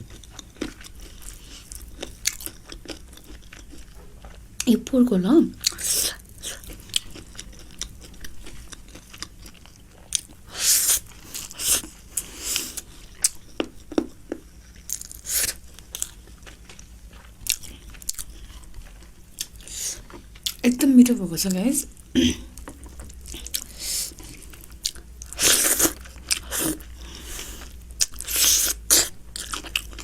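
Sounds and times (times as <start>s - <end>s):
person chewing food: 0.0s - 4.7s, 5.6s - 20.6s, 21.9s - 30.0s.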